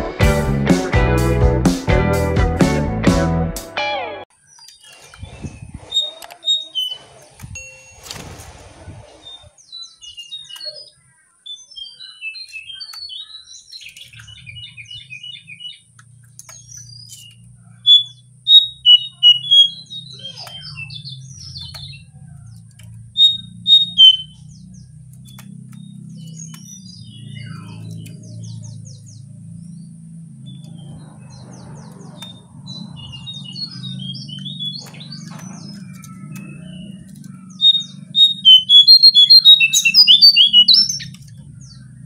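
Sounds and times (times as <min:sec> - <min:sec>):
songbird chirping and whistling: 0:04.5 - 0:07.7, 0:09.2 - 0:42.0.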